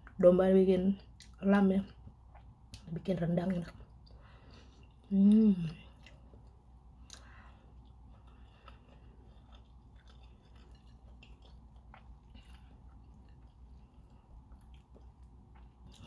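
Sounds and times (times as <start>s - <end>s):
person chewing food: 1.0s - 16.0s.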